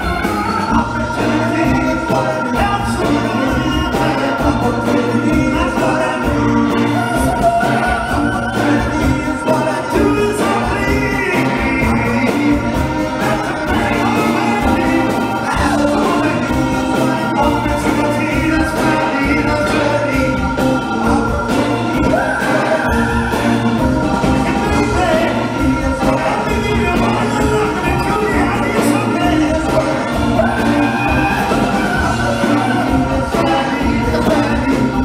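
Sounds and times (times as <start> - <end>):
lead vocal singing: 0.0 - 35.0
live band playing a song: 0.0 - 35.0.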